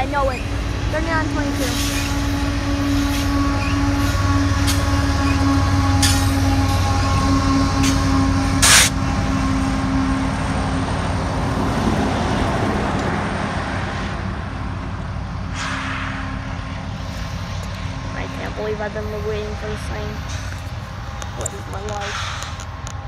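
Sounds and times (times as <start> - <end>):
diesel locomotive engine drone: 0.0 - 23.0
wheels rumbling on rail: 0.0 - 23.0
passing truck hiss: 0.4 - 21.2, 22.0 - 22.8.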